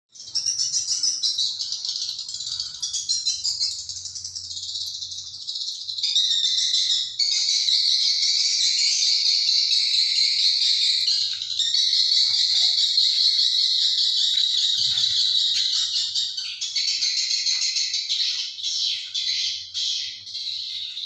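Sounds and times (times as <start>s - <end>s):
many birds chirping: 0.1s - 21.0s.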